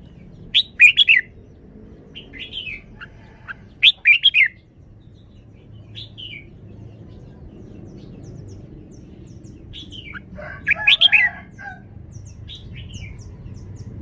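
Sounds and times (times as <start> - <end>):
bird singing warbled phrases: 0.0 - 14.0.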